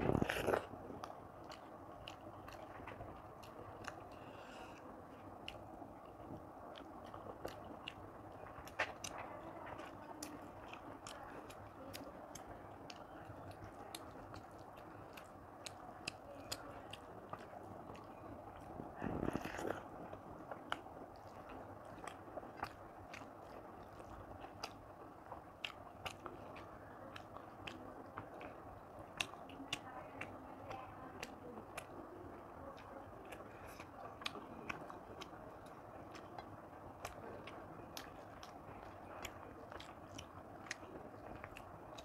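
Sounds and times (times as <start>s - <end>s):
person chewing with wet clicks: 0.0s - 42.0s.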